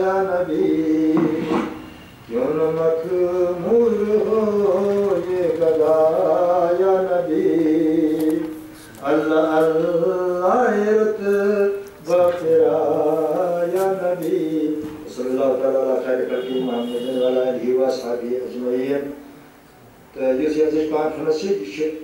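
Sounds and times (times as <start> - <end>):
man chanting poetry: 0.0 - 19.3, 20.1 - 22.0.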